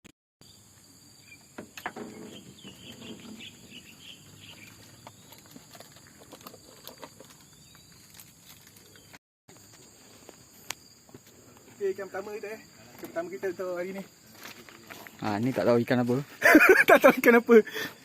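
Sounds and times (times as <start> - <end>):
insects trilling: 0.4 - 18.0.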